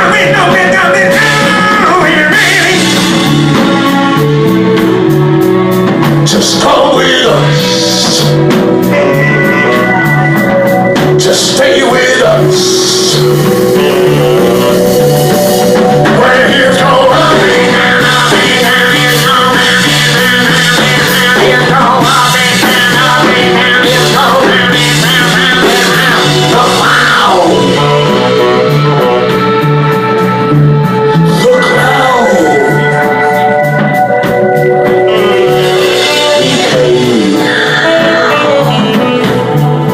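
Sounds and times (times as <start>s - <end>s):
rock music with bass and guitar: 0.0s - 39.9s.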